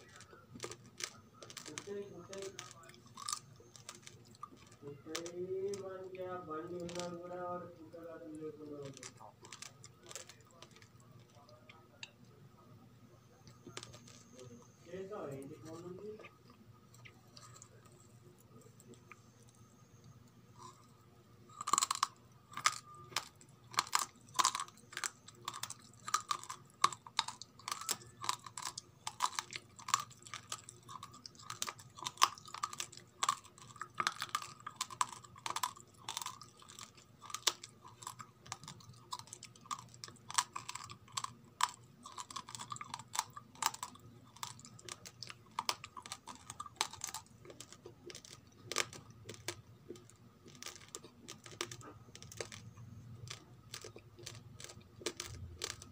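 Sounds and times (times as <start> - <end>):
person chewing raw rice: 0.0 - 5.8, 6.7 - 7.4, 8.8 - 11.6, 13.4 - 14.7, 15.6 - 55.9.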